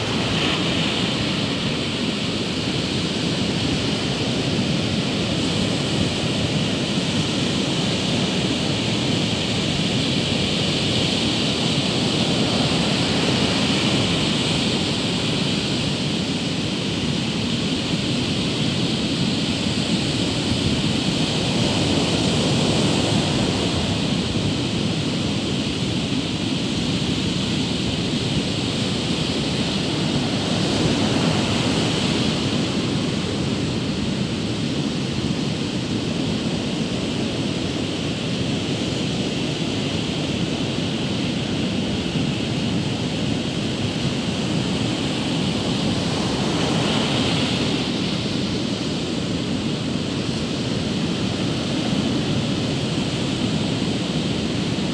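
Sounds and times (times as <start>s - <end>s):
surf breaking on beach: 0.0s - 54.9s
wind on microphone: 0.0s - 54.9s.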